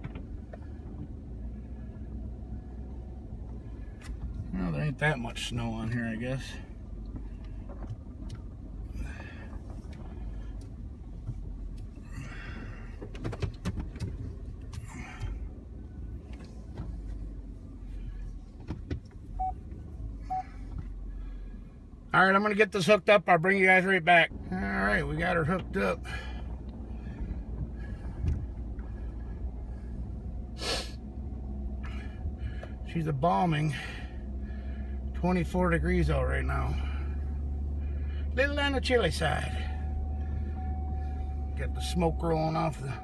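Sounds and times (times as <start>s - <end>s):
vehicle engine and road rumble: 0.0s - 43.0s.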